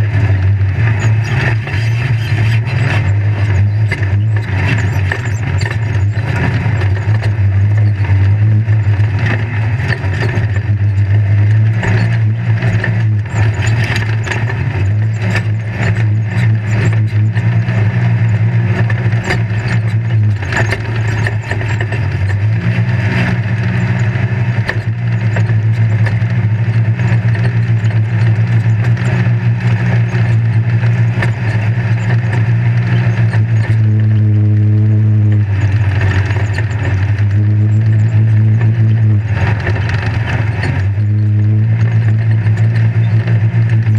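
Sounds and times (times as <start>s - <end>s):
chassis rattling and knocking: 0.0s - 43.9s
engine running under load: 0.0s - 43.9s
higher engine hum: 0.0s - 43.9s.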